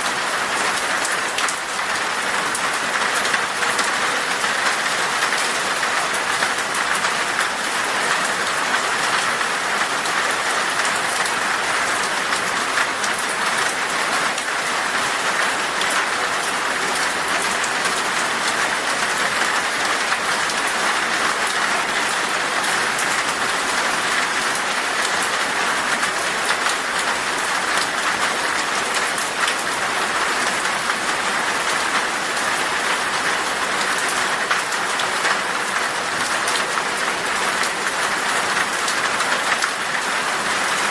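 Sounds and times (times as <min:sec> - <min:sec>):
heavy rain on window glass: 0:00.0 - 0:40.9.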